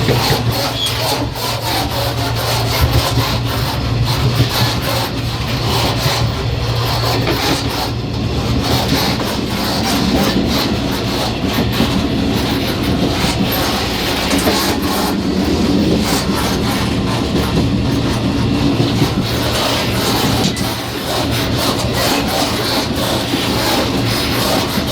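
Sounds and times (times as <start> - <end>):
train car connection rattling: 0.0 - 24.9
train wheels rumbling: 0.0 - 24.9.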